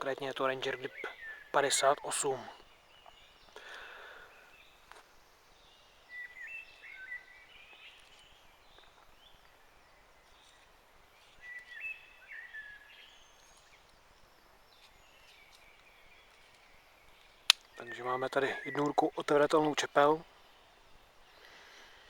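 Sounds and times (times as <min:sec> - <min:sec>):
faint outdoor background hiss: 0:00.0 - 0:22.0.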